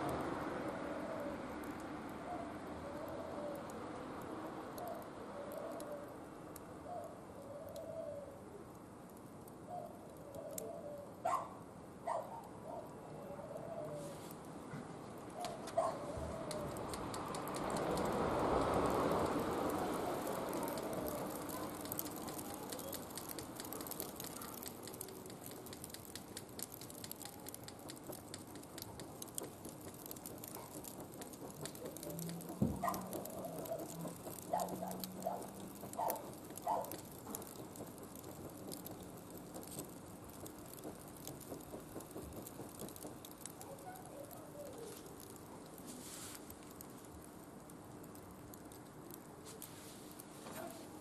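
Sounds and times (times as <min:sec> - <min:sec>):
wood fire crackling in grill: 0:00.0 - 0:51.0.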